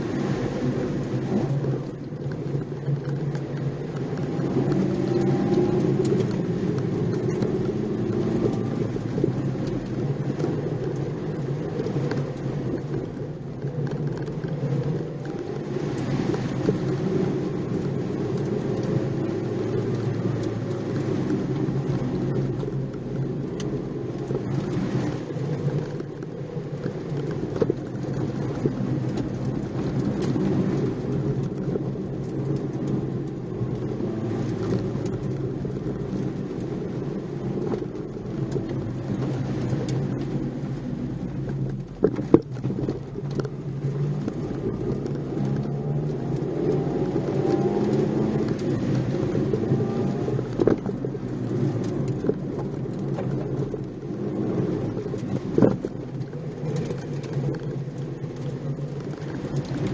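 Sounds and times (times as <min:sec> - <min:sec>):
car engine from inside cabin: 0:00.0 - 0:59.9
tyre and road noise: 0:00.0 - 0:59.9.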